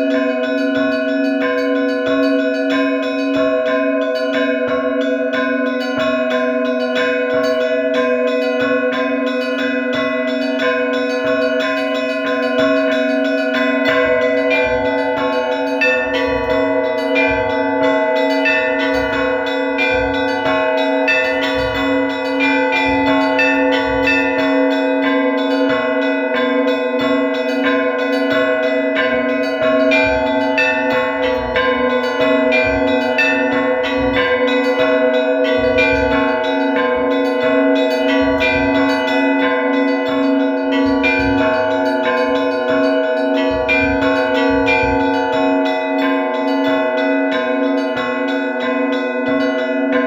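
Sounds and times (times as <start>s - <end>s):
deep church bell tones: 0.0s - 50.0s
small bells striking rapidly: 0.0s - 50.0s.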